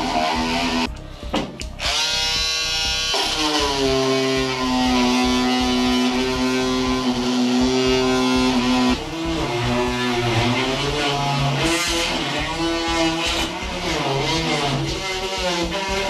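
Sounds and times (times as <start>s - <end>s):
electric sander running: 0.0s - 1.0s, 1.8s - 16.0s
guitar music: 0.0s - 16.0s.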